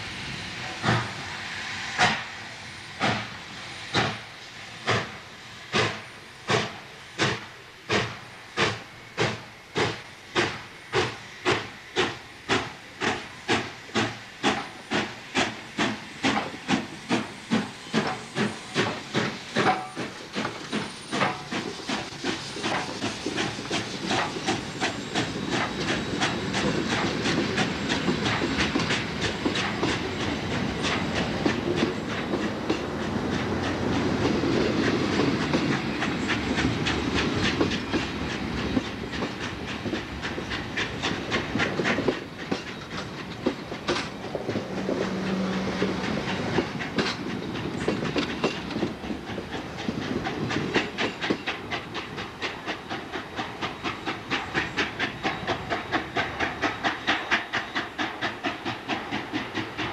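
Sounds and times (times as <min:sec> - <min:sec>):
steam locomotive rumble and hiss: 0:00.0 - 0:59.9
clickety-clack of train wheels: 0:00.5 - 0:59.9.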